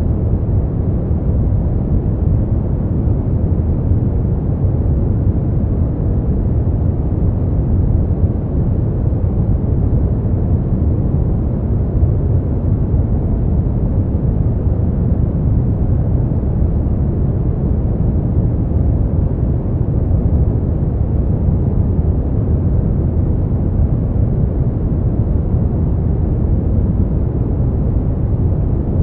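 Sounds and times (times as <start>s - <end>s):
deep dark white noise: 0.0s - 29.0s.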